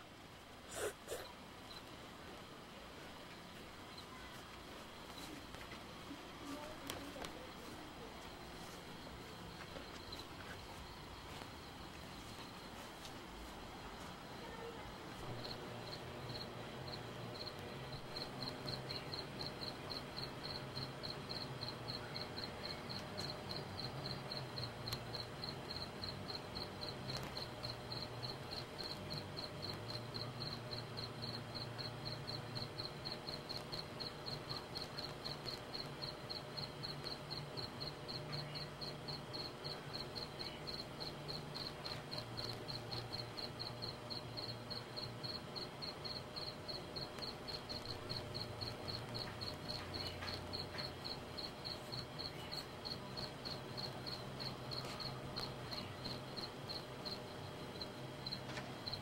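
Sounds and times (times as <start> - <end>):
faint low hum: 0.0 - 59.0
cricket chirping: 0.7 - 1.9, 3.9 - 4.3, 6.6 - 59.0.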